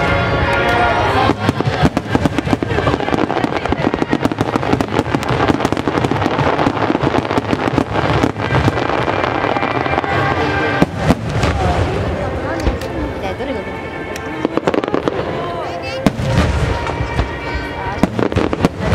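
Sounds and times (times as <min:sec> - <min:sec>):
fireworks booming and crackling: 0:00.0 - 0:18.9.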